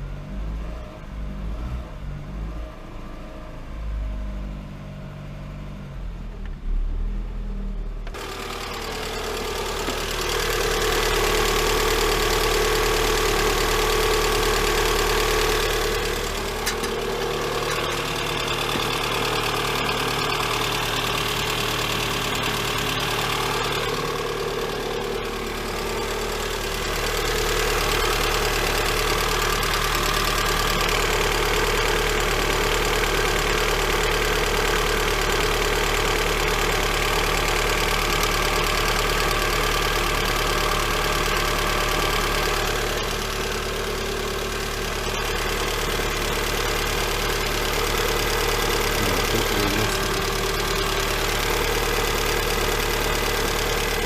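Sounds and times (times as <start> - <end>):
car engine idling: 7.3 - 54.0
engine knock: 8.1 - 54.0.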